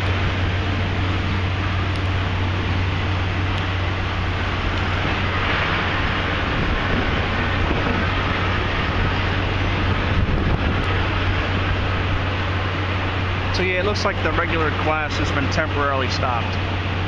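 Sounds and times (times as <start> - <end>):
constant low hum: 0.0 - 17.0
traffic rumble: 0.0 - 17.0.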